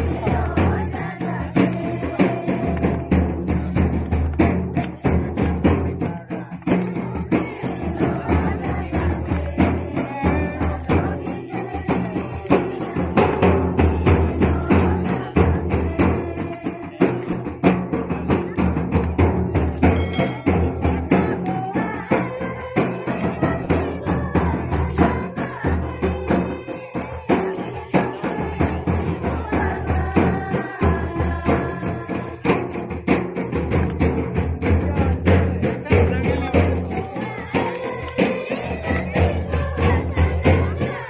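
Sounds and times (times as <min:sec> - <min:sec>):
drums beating: 0:00.0 - 0:41.0
jingling percussion: 0:00.0 - 0:41.0.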